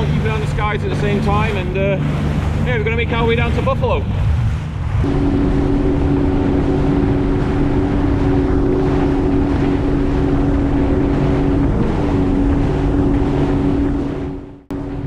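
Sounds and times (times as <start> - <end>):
personal watercraft engine drone: 0.0 - 15.0
rushing wind and water: 0.0 - 15.0.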